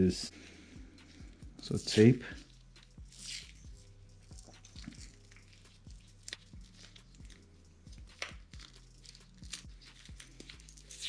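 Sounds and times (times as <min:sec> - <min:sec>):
background music with deep bass: 0:00.0 - 0:11.0
tape crinkling: 0:00.4 - 0:11.0.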